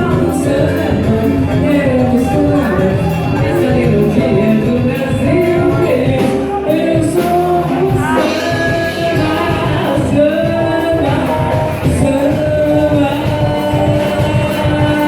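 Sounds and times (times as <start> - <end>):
live band music: 0.0 - 15.0
singer holding long notes: 0.0 - 15.0.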